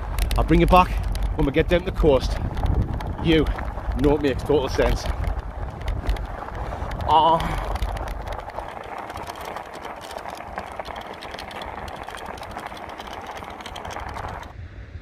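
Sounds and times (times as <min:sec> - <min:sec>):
bicycle rapid clicking rattle: 0:00.0 - 0:14.5.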